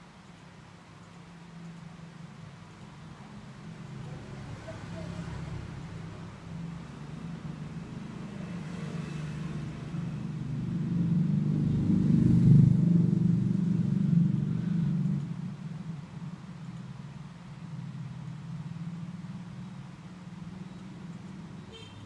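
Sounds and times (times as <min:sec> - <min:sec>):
vehicle engine rumble passing: 0:03.1 - 0:21.6.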